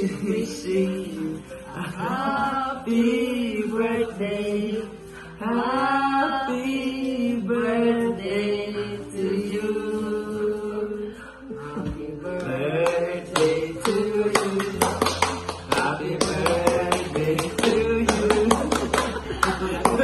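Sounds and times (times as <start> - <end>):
group singing a slow celebration song: 0.0 - 20.0.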